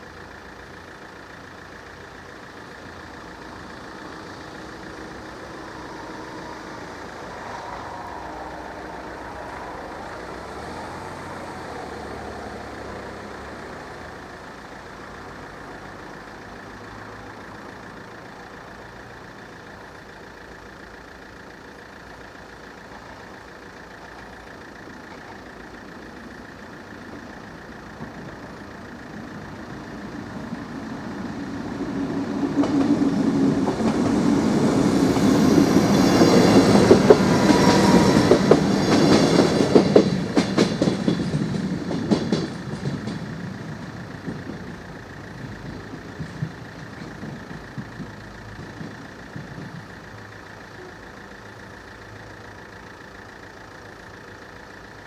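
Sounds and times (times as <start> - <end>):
approaching train: 0.0 - 55.0
car engine idling: 0.0 - 55.0.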